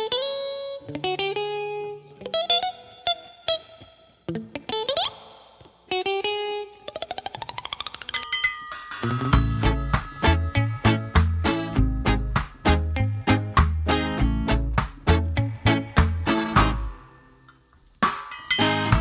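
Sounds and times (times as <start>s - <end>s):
electric guitar playing: 0.0s - 8.2s, 9.0s - 17.7s, 18.6s - 19.0s.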